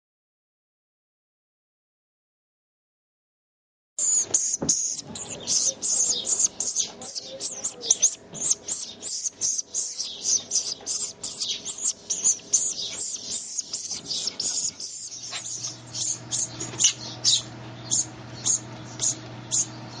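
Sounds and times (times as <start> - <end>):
bird rapid high-pitched chirps: 4.0 - 20.0.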